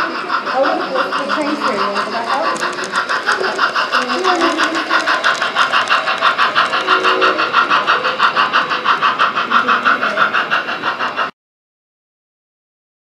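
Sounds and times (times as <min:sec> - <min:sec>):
model train running on track: 0:00.0 - 0:11.3.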